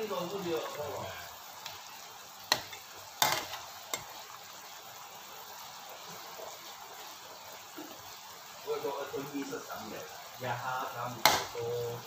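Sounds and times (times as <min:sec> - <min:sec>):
soup simmering and bubbling: 0:00.0 - 0:12.0.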